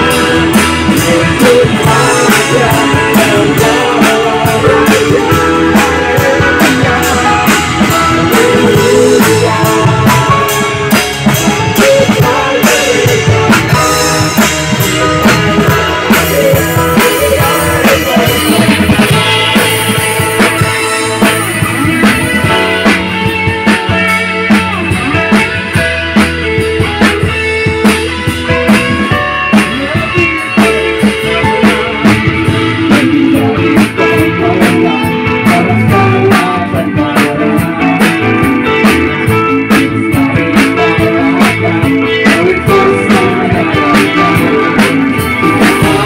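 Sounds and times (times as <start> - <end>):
drum beat: 0.0 - 46.0
electric guitar: 0.0 - 46.0
keyboard: 0.0 - 46.0.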